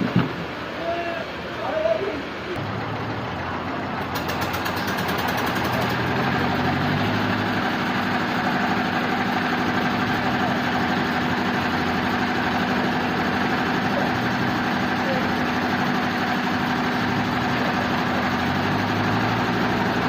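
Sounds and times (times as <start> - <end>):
sawmill machine engine humming: 0.0 - 20.0.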